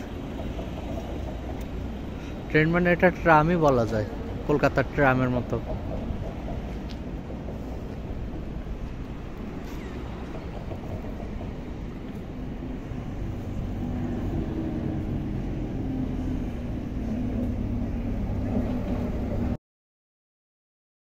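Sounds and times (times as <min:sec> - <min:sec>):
city traffic rumble: 0:00.0 - 0:19.6
nearby vehicle engine hum: 0:00.0 - 0:19.6.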